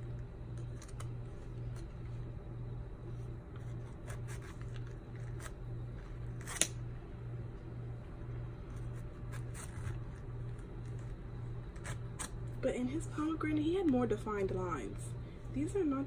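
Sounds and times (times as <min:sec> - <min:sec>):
low pulsing hum: 0:00.0 - 0:16.0.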